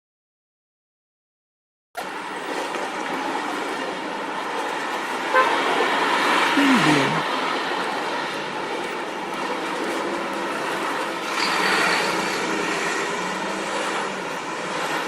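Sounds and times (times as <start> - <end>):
traffic noise with engines: 2.0 - 15.0.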